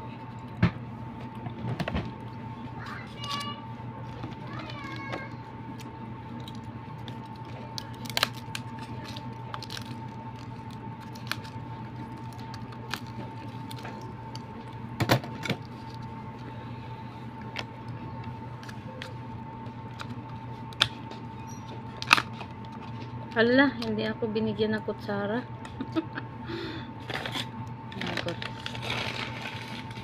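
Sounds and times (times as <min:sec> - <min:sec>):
steady high hum: 0:00.0 - 0:30.0.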